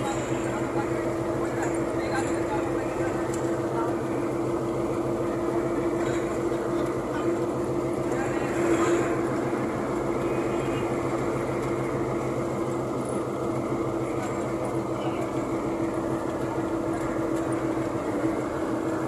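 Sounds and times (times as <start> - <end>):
bus engine droning: 0.0 - 19.0
road and wind noise: 0.0 - 19.0.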